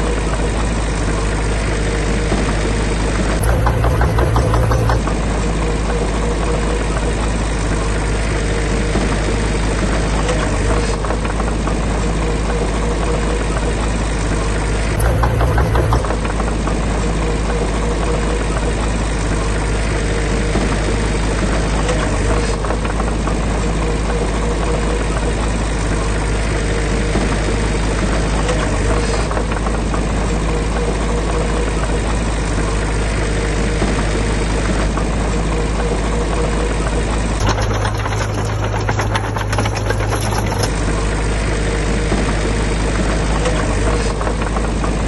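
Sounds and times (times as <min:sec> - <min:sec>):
heavy diesel engine rattling: 0:02.6 - 0:33.2, 0:34.6 - 0:45.0.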